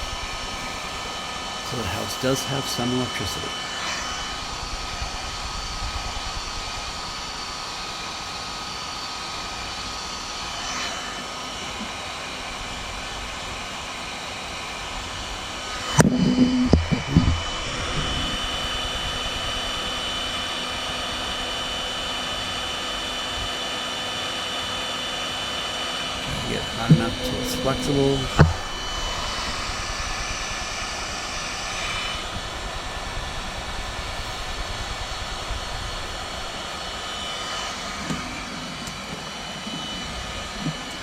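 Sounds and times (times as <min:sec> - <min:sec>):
heat gun blowing with a whine: 0:00.0 - 0:41.0.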